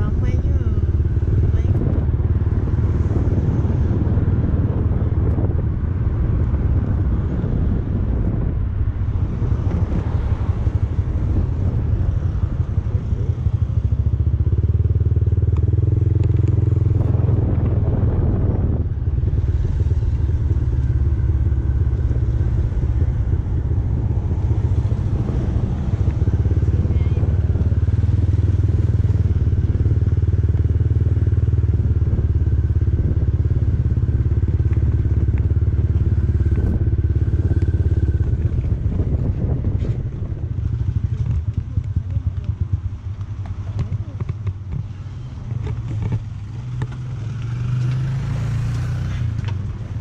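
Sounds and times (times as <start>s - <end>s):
motorcycle engine rumbling: 0.0s - 50.0s.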